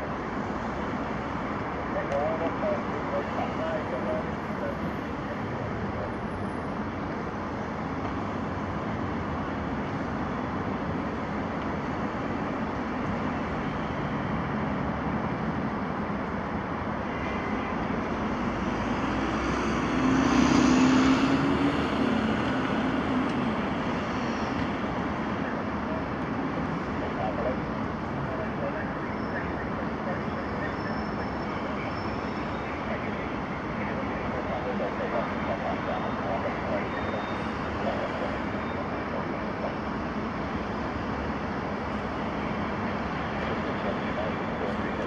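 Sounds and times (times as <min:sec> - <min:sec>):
distant jet engines rushing: 0:00.0 - 0:45.0.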